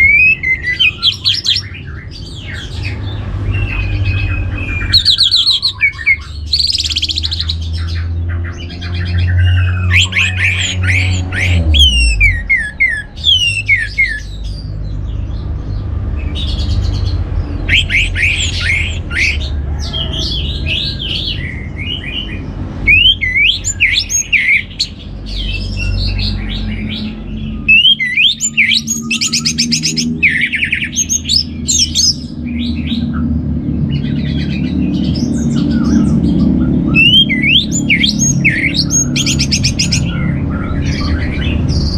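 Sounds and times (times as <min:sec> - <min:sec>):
thrush singing: 0:00.0 - 0:41.9.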